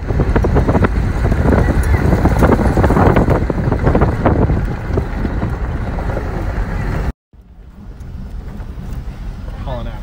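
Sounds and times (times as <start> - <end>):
wind buffeting microphone: 0.0 - 9.6
engine rumble and tyres on gravel: 0.0 - 10.0.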